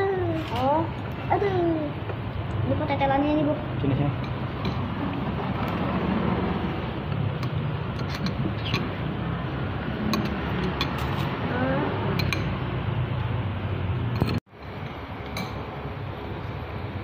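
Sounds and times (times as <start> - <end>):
low background rumble of food stall: 0.0 - 17.0.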